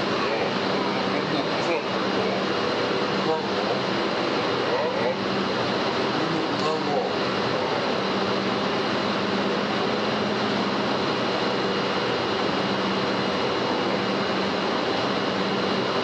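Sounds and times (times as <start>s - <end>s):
faint high whines: 0.0s - 16.0s
industrial machinery rush: 0.0s - 16.0s
low machinery hum: 0.0s - 16.0s.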